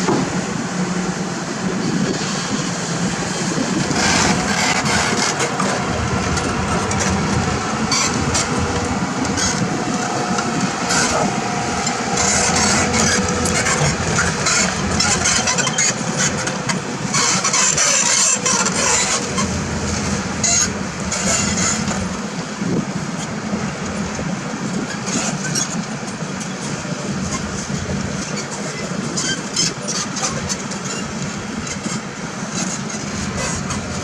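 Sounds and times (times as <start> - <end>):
diesel excavator engines running: 0.0 - 34.0.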